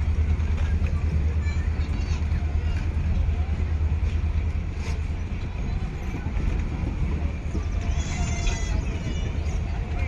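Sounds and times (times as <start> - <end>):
passenger train rumbling past: 0.0 - 10.0.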